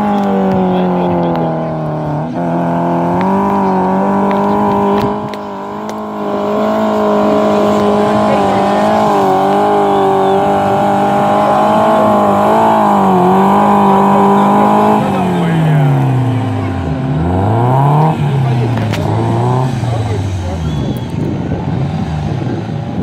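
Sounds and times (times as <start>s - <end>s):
vehicle engine revving hard: 0.0s - 23.0s.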